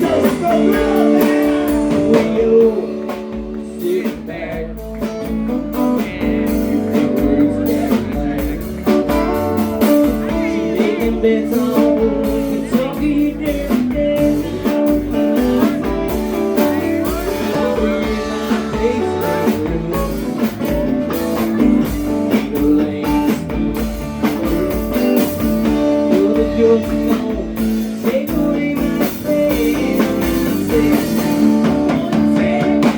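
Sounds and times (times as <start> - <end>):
band playing blues rock: 0.0 - 32.9
person singing: 0.0 - 32.9.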